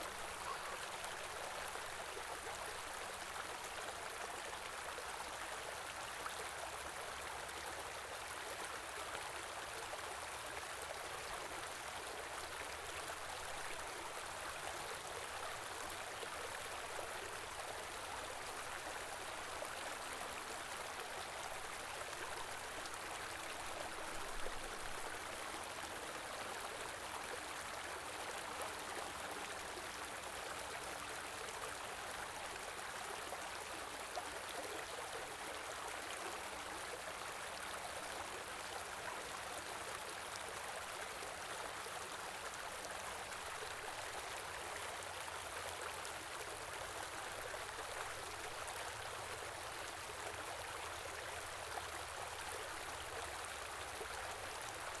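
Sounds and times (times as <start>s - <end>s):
stream rushing and babbling: 0.0s - 55.0s.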